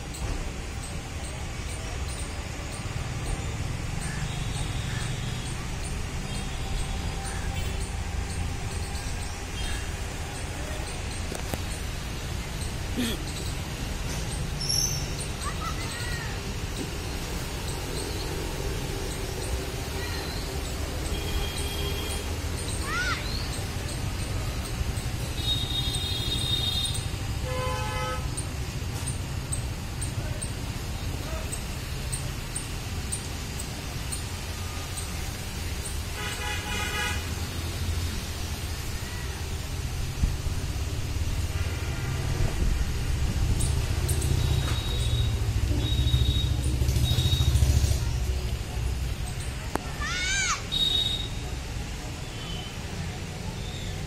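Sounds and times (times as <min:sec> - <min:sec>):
distant traffic rumble: 0:00.0 - 0:54.0.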